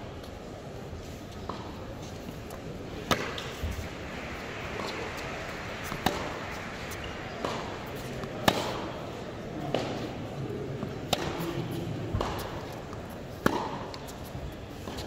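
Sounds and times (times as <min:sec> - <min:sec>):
onlookers chattering: 0:00.0 - 0:15.0
tennis ball bouncing: 0:01.4 - 0:10.2, 0:10.8 - 0:15.0
tennis ball hit by racquet: 0:01.5 - 0:10.1, 0:10.8 - 0:15.0.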